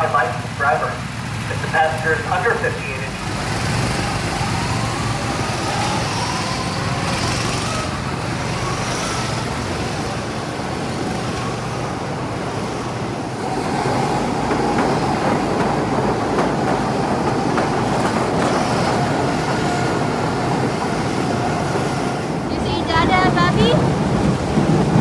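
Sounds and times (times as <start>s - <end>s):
go-kart engines revving: 0.0s - 25.0s.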